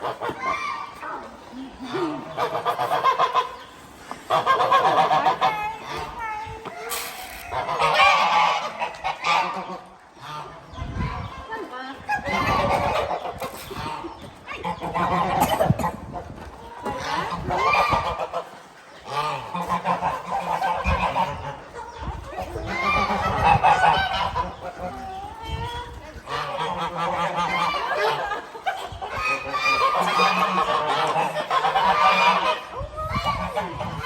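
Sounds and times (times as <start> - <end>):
geese honking: 0.0 - 6.2, 7.3 - 34.0.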